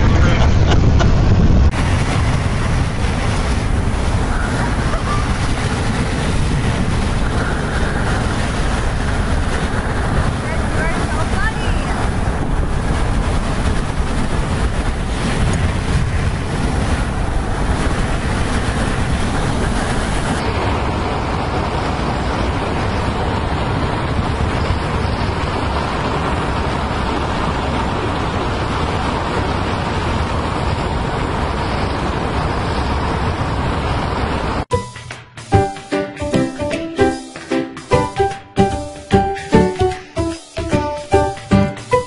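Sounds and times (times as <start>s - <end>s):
wind buffeting microphone: 0.0s - 34.7s
wind rushing past car window: 0.0s - 34.7s
steady road noise: 0.0s - 42.0s.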